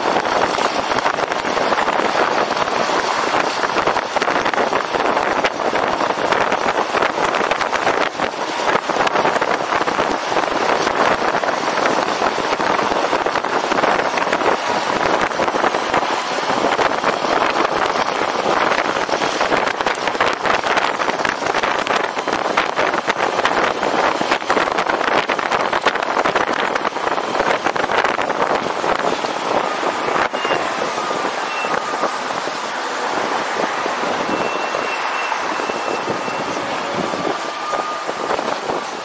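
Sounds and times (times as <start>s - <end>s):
tyre and road noise: 0.0s - 39.0s
wind rushing on microphone: 0.0s - 39.0s.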